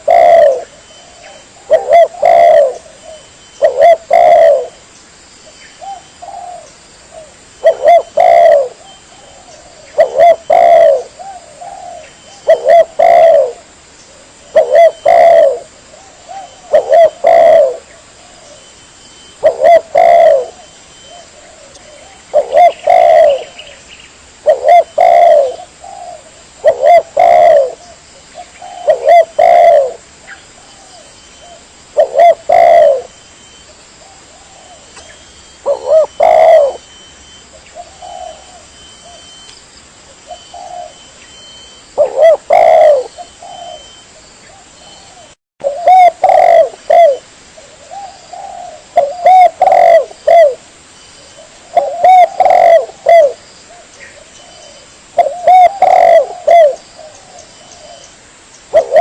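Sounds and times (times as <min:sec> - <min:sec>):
dove cooing: 0:00.0 - 0:04.8, 0:05.8 - 0:23.8, 0:24.4 - 0:39.5, 0:40.2 - 0:58.1, 0:58.7 - 0:59.0.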